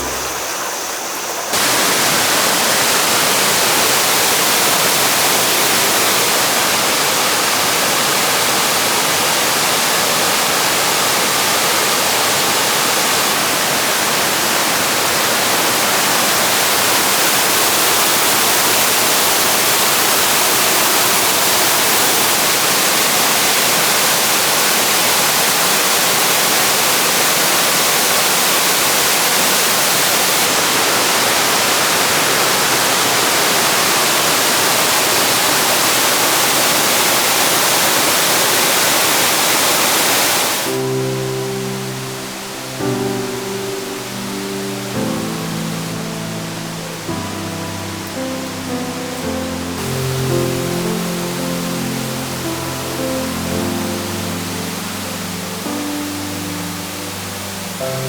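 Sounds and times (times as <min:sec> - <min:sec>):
quieter water sound: 0:00.0 - 0:58.0
waterfall roaring: 0:00.0 - 0:58.0.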